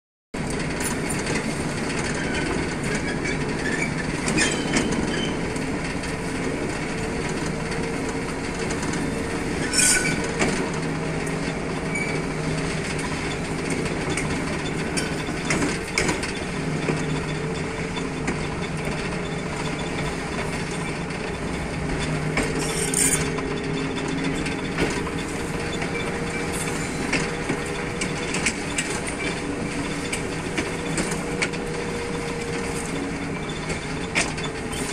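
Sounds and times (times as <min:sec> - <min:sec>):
diesel locomotive engine: 0:00.4 - 0:34.9
wheels rattling on rails: 0:00.4 - 0:34.9.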